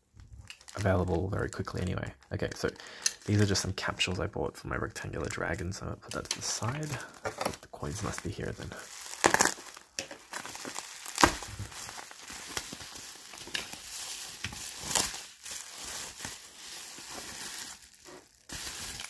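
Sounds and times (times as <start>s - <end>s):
bubble wrap crinkling: 0.4s - 4.2s, 5.2s - 19.0s.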